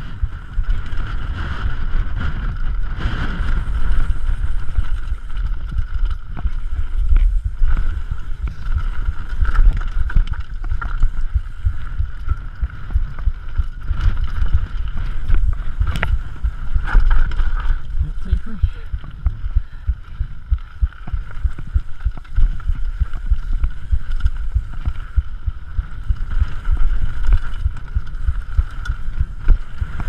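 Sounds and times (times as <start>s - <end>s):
bike knocking and rattling: 0.0s - 30.0s
wind buffeting microphone: 0.0s - 30.0s.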